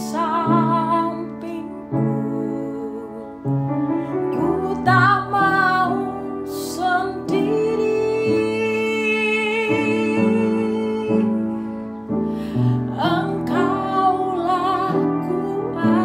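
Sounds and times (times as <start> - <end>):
woman singing with vibrato: 0.0 - 11.8, 12.4 - 16.0
piano chords: 0.0 - 16.0.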